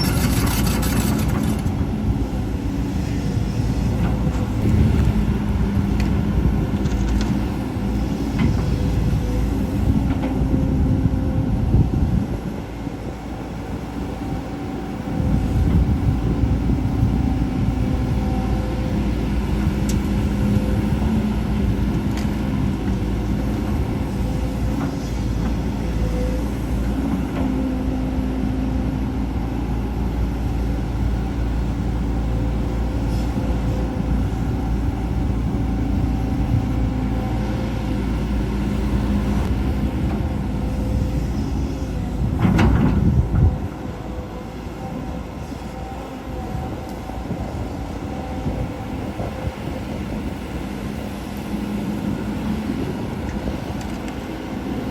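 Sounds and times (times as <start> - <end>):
diesel excavator engine running: 0.0 - 54.9.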